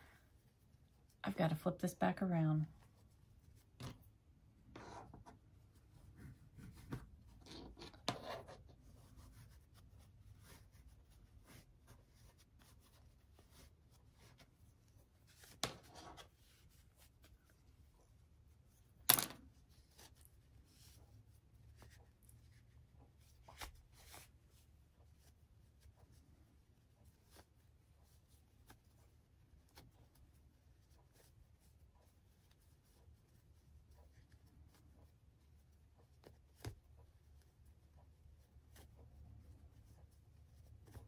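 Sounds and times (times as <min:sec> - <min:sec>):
fabric rustling and rubbing: 0:02.6 - 0:41.0.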